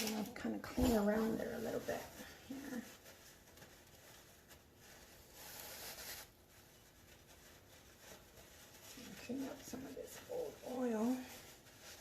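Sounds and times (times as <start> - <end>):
rag wiping rubbing hiss: 0.5 - 12.0.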